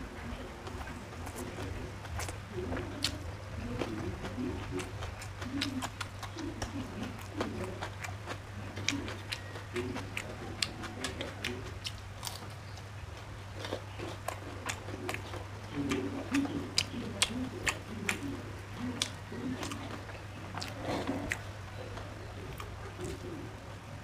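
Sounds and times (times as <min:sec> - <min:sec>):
steady low hum: 0:00.0 - 0:24.0
person chewing and smacking: 0:00.3 - 0:23.6.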